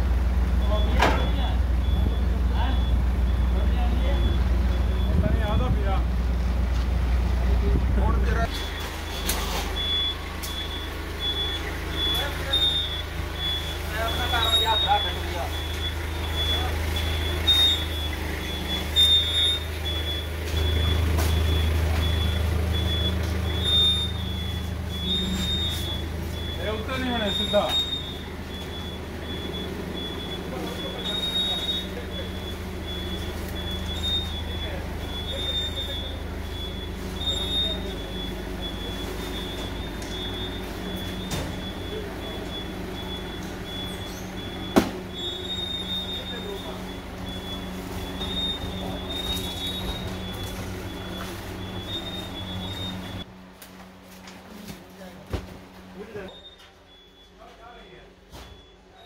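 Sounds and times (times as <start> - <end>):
forklift engine humming: 0.0 - 59.0
backup alarm beeping: 0.5 - 5.8, 8.2 - 53.3, 56.2 - 59.0.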